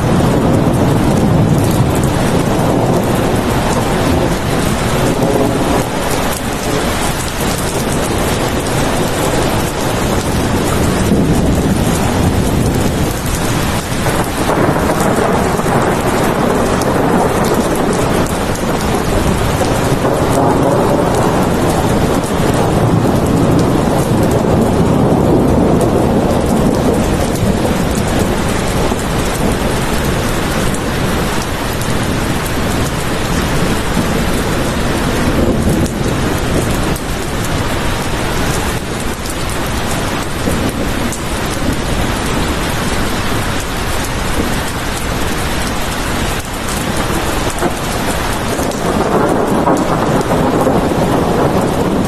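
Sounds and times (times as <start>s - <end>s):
heavy rain falling: 0.0s - 52.0s
low thunder rumble: 0.0s - 52.0s.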